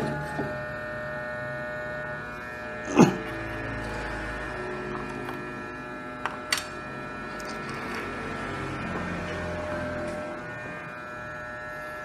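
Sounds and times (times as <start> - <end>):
steady hum of held tones: 0.0 - 12.0.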